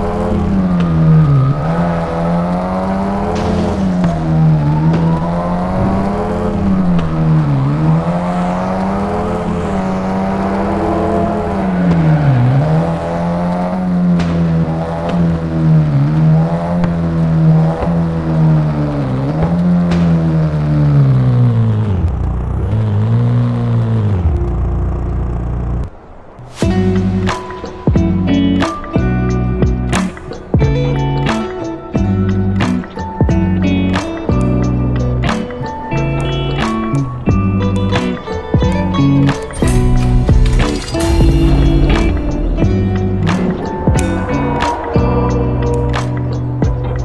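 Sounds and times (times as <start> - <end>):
car engine revving: 0.0 - 27.6, 35.0 - 47.0.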